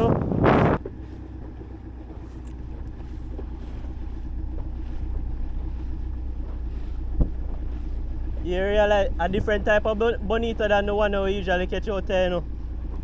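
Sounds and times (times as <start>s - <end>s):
boat motor rumbling: 0.0s - 13.0s
wind buffeting microphone: 0.0s - 13.0s.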